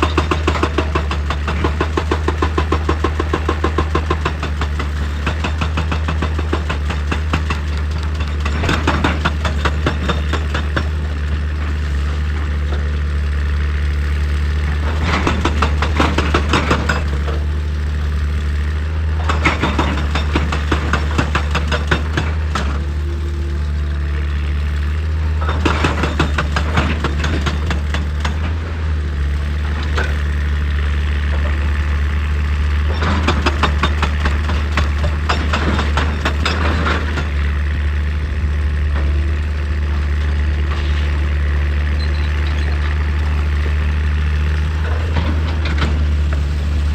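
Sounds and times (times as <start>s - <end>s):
diesel excavator engine running: 0.0s - 46.9s.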